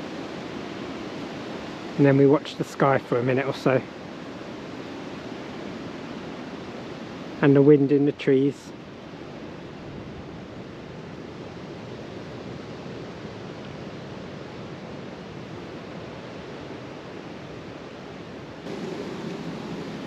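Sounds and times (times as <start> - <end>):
wind blowing through trees: 0.0 - 20.0.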